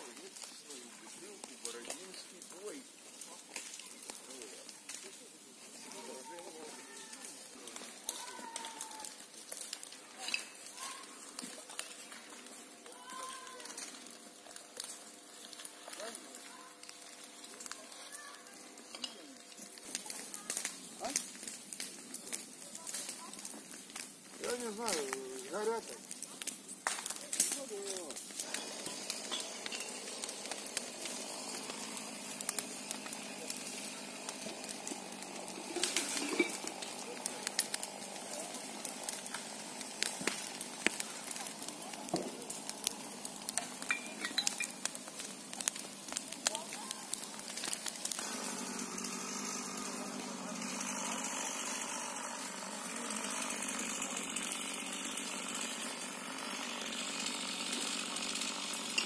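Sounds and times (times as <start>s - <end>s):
chainsaw running: 0.0s - 59.0s
sharp crackles and rustles: 0.0s - 59.0s.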